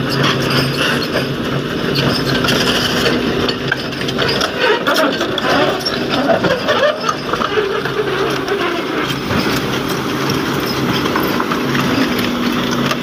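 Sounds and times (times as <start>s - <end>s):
diesel engine humming: 0.0s - 13.0s
rapid metallic clatter: 0.0s - 13.0s.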